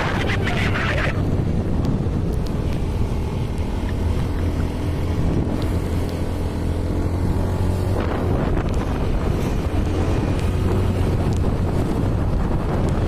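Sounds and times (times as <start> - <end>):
motorcycle engine running: 0.0 - 13.0
wind on microphone: 0.0 - 13.0.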